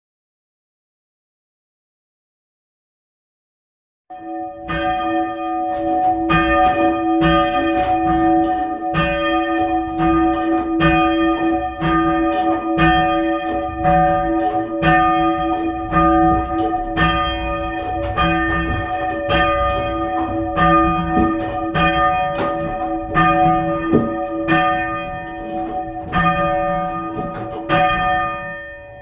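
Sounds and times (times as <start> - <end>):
church bells ringing: 4.1 - 29.0
low hum of bells: 4.1 - 29.0.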